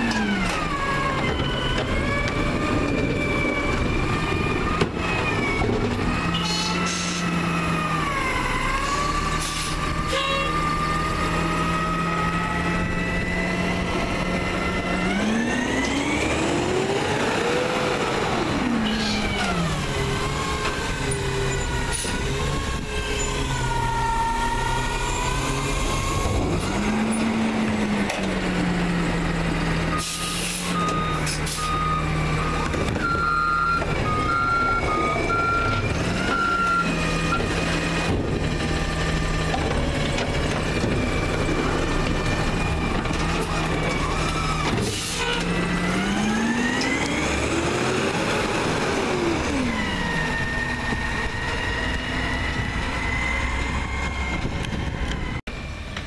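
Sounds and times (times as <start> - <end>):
garbage truck engine running: 0.0 - 56.0.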